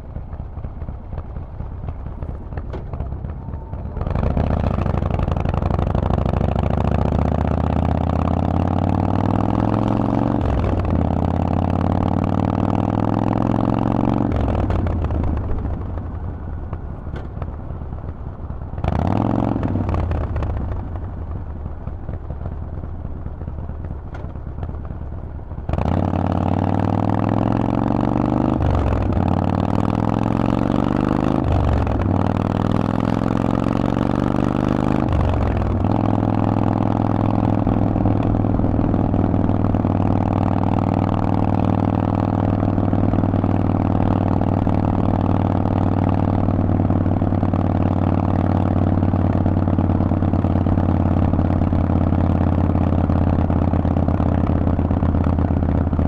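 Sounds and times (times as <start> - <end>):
motorcycle engine revving and accelerating: 1.8 - 16.0, 18.8 - 21.0, 25.6 - 56.0.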